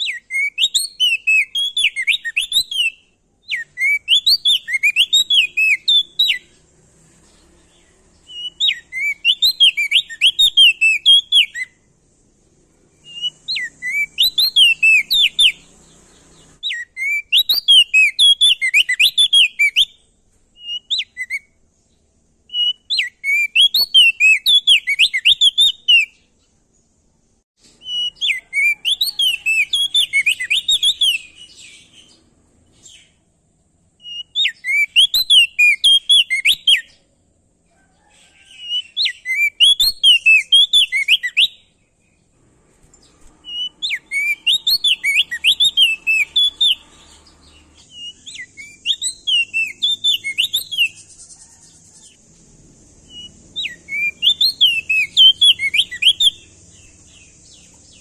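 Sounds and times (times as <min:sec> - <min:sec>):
songbird whistling: 0:00.0 - 0:06.6, 0:07.7 - 0:11.9, 0:12.9 - 0:21.6, 0:22.5 - 0:26.5, 0:27.7 - 0:33.2, 0:34.0 - 0:37.1, 0:38.0 - 0:42.3, 0:43.0 - 0:52.2, 0:53.0 - 0:58.0.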